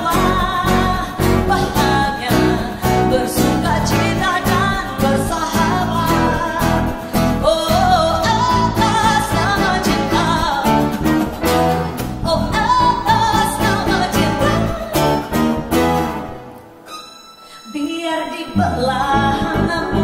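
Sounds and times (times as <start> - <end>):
woman singing: 0.0 - 11.2, 12.2 - 15.4, 17.5 - 20.0
live band playing: 0.0 - 17.6.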